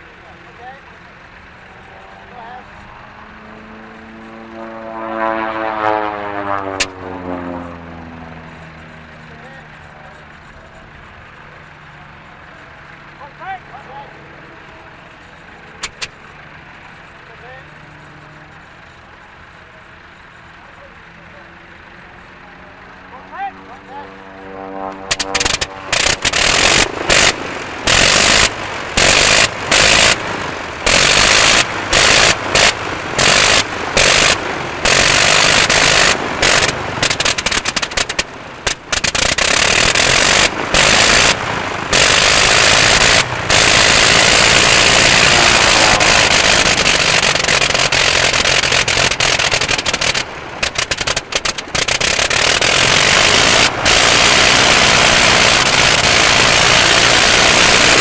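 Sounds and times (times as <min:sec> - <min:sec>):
vintage aircraft engine running: 0:00.0 - 0:58.0.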